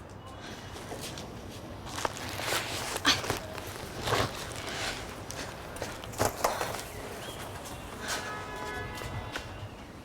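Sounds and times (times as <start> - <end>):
footsteps: 0.4 - 9.7.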